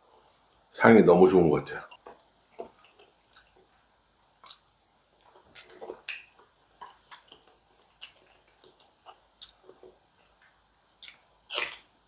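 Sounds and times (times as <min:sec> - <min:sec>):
person chewing food: 0:02.0 - 0:11.9.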